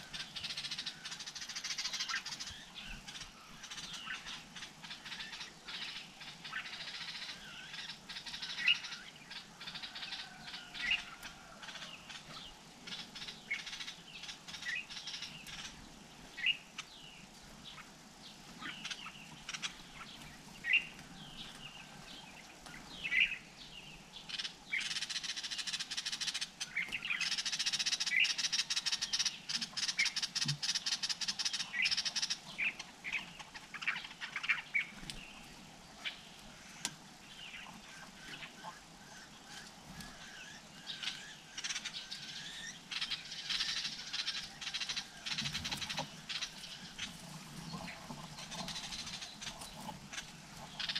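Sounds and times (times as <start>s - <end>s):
dense crackling hiss: 0.0s - 50.9s.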